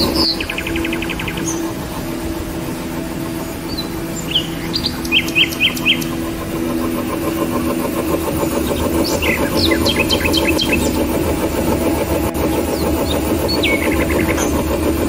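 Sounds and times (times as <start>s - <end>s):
electric grinding mill humming: 0.0s - 15.0s
small birds chirping: 0.0s - 15.0s.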